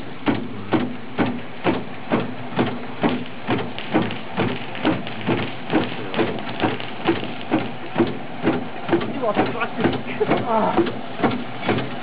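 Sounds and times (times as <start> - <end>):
steady hiss: 0.0 - 12.0
hand fire pump knocking: 0.2 - 12.0.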